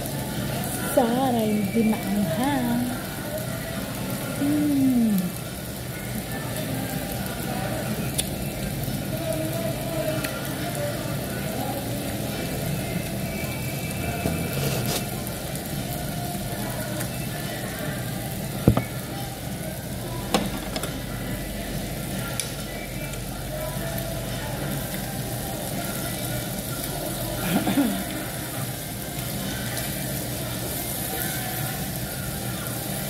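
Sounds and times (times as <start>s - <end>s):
faint background music: 0.0s - 33.0s
ventilation hum: 0.0s - 33.0s.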